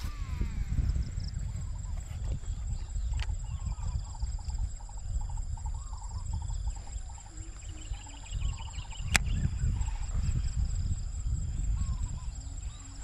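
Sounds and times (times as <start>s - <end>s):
high-pitched insect drone: 0.0s - 13.0s
wind buffeting microphone: 0.0s - 13.0s.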